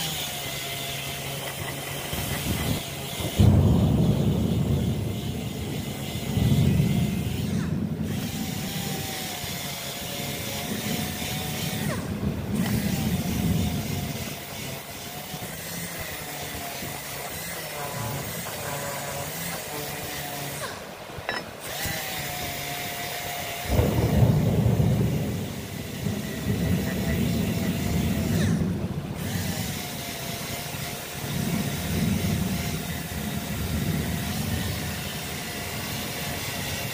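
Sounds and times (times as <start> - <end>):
power tool motor whine: 0.0 - 36.9.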